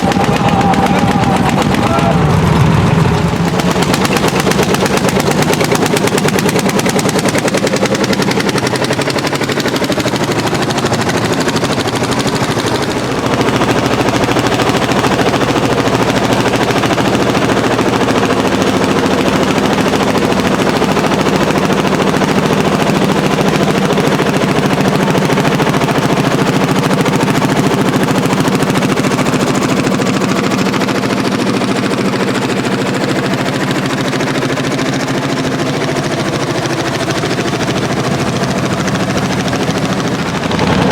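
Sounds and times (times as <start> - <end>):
tractor diesel engine running hard: 0.0 - 40.9.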